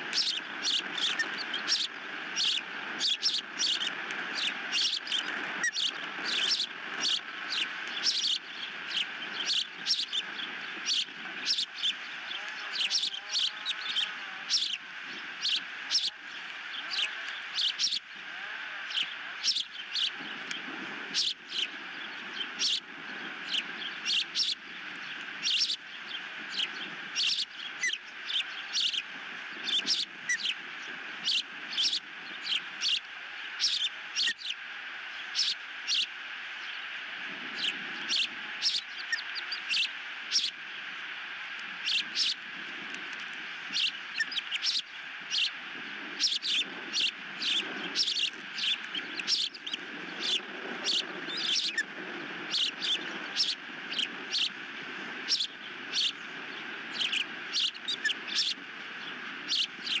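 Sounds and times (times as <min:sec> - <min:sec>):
background hiss: 0:00.0 - 1:00.0
ospreys chirping: 0:00.0 - 1:00.0.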